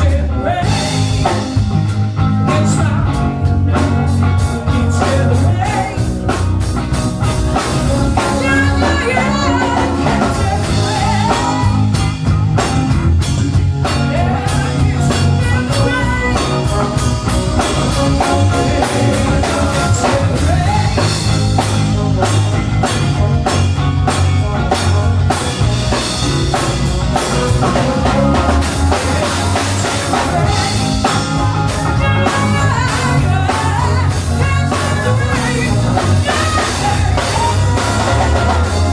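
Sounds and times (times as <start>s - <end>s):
rock music with singing: 0.0s - 38.9s.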